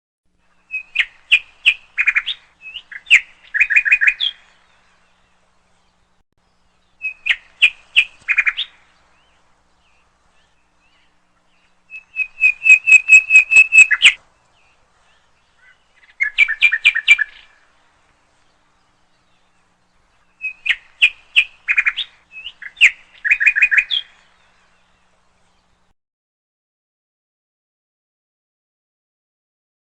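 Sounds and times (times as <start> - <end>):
songbird chirping: 0.3 - 25.9.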